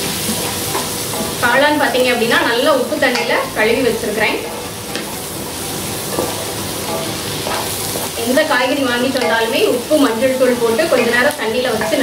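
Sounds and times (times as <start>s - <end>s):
mushrooms and onions sizzling: 0.0s - 12.0s.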